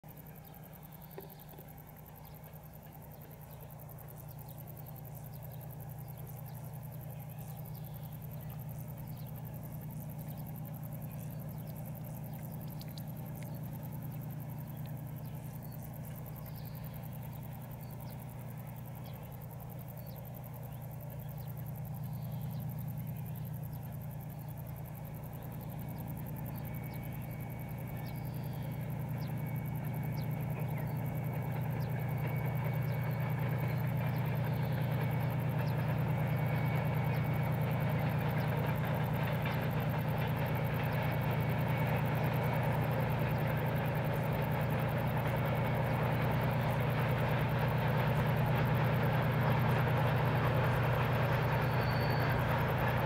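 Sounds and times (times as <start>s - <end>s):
distant diesel locomotive drone: 0.0s - 53.0s.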